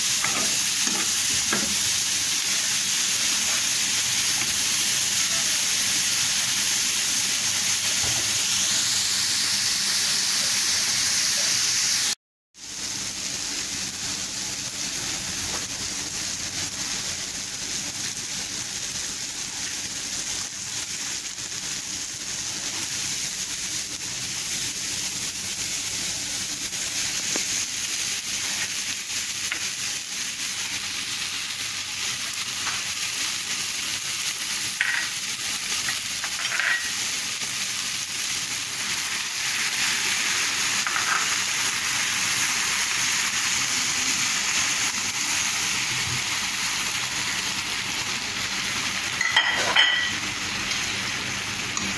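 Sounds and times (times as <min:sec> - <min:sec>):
vegetables sizzling in frying pan: 0:00.0 - 0:51.9.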